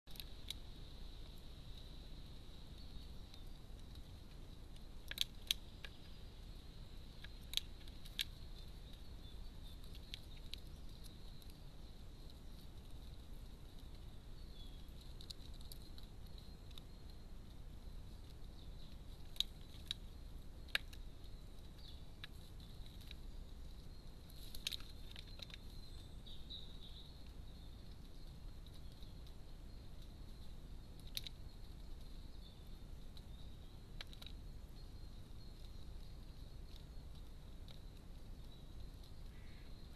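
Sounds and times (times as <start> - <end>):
faint background hiss: 0.1 - 39.9.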